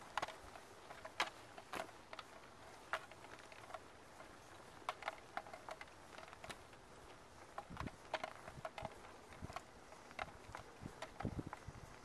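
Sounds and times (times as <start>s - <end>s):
bicycle clicks and ticks: 0.0s - 12.0s.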